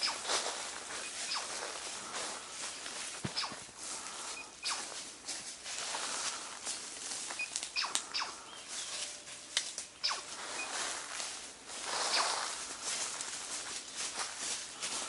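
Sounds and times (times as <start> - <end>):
brushing through undergrowth: 0.0 - 15.0
footsteps crunching through dry leaves: 0.0 - 15.0
twigs cracking: 0.0 - 15.0.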